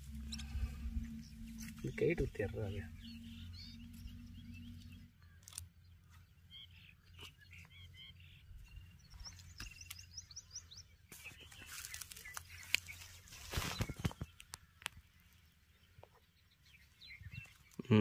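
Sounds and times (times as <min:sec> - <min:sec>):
small birds chirping faintly: 0:00.0 - 0:18.0.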